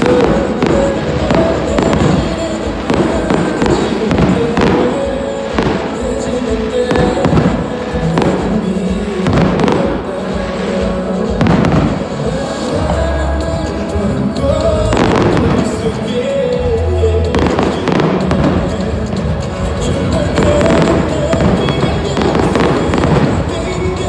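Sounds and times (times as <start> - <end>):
fireworks bangs: 0.0 - 16.7, 17.3 - 24.0
fireworks crackling: 0.0 - 24.0
loud music: 0.0 - 24.0.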